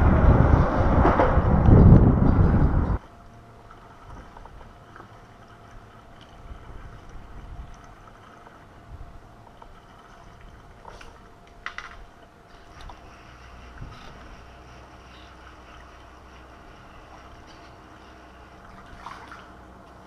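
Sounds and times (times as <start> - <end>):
small waves lapping against hull: 2.9 - 20.0.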